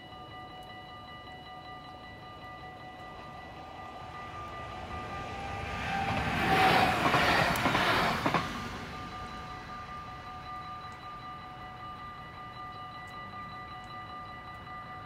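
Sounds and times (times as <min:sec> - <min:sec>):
crossing warning bells ringing: 0:00.0 - 0:15.0
train passing: 0:00.0 - 0:15.0.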